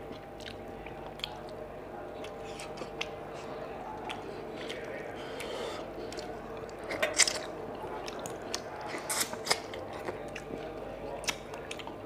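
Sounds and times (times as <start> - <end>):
person chewing: 0.1 - 1.6, 2.2 - 12.0.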